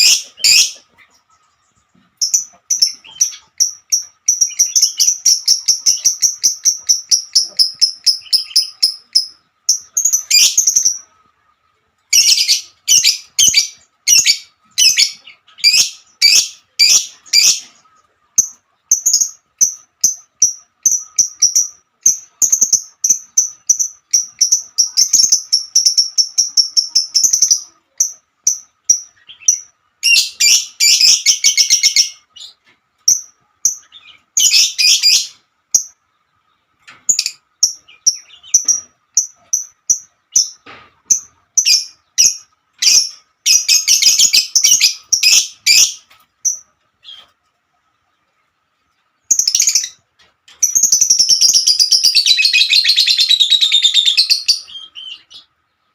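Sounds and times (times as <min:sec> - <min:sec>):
lovebird chirping: 0:00.0 - 0:55.9.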